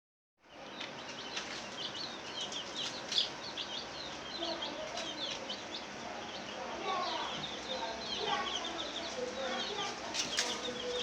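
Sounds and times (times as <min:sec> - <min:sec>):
chickens chirping: 0:00.4 - 0:11.0.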